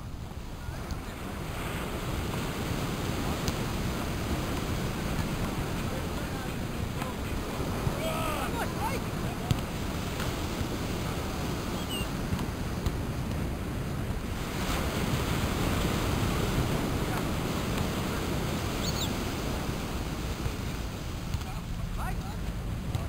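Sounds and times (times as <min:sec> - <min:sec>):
ocean surf on beach: 0:00.0 - 0:23.0
wind rumbling on microphone: 0:00.0 - 0:23.0.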